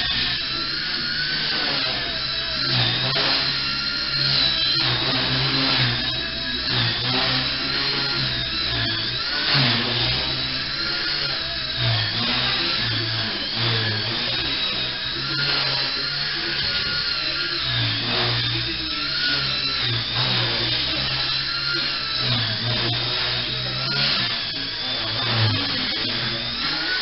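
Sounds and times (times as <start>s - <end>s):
electric motor high whine: 0.0s - 27.0s
rotor buzz: 0.0s - 27.0s.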